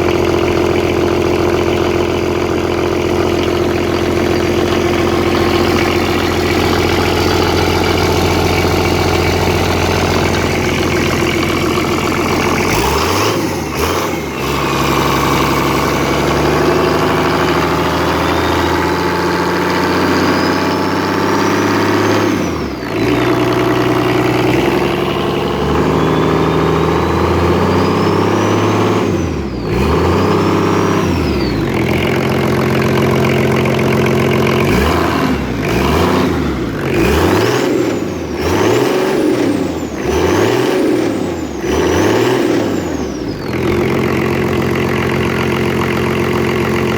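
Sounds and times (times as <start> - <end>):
diesel engine idling and revving: 0.0 - 46.9
turbocharger whine: 0.0 - 46.9.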